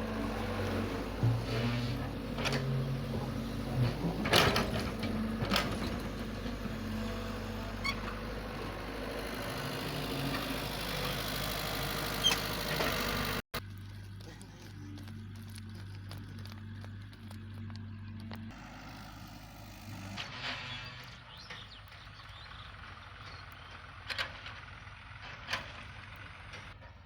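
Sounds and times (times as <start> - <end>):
diesel excavator engine running: 0.0 - 27.0
quiet engine hum: 0.0 - 27.0.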